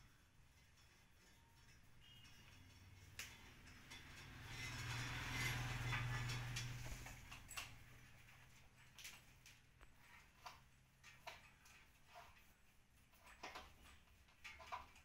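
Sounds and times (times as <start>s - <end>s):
wires rustling and scraping: 0.0s - 15.0s.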